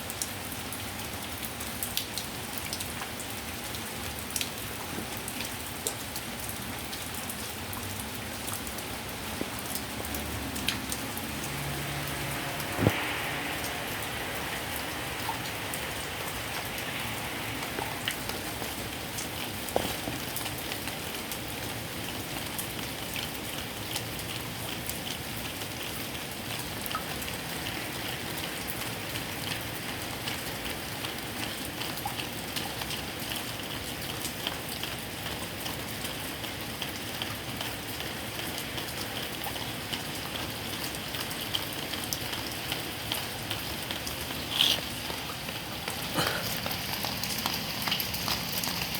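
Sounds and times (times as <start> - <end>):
heavy rain: 0.0 - 48.9
water drips: 0.1 - 35.8, 36.4 - 48.9.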